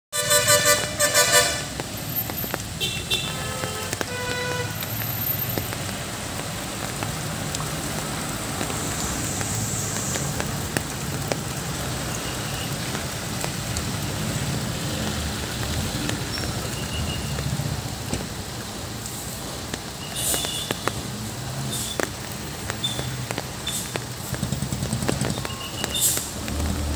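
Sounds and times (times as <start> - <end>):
tyres hissing on wet road: 0.2 - 26.9
vehicle engines running slowly: 0.4 - 26.9.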